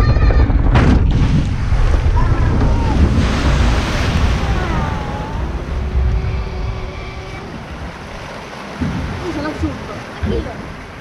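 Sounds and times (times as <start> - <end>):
churning water rushing: 0.0 - 11.0
boat splashing into water: 0.2 - 11.0.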